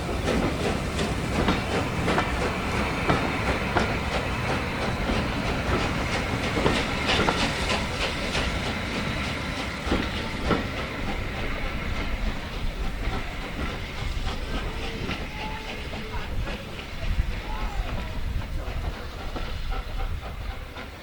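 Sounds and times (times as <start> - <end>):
steam hissing: 0.0 - 21.0
train wheels clattering over rail joints: 0.0 - 21.0.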